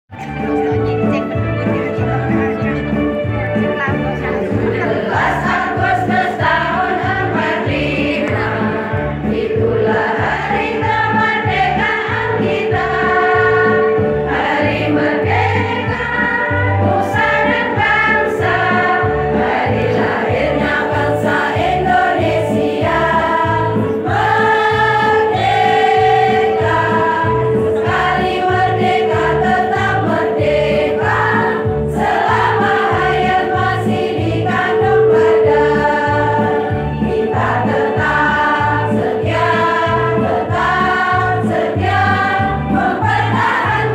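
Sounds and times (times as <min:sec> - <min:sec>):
women's choir singing: 0:04.5 - 0:43.9.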